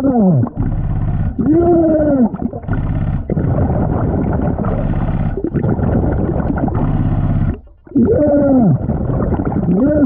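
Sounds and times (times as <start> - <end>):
underwater exhaled bubbles gurgling: 0.0 - 10.0.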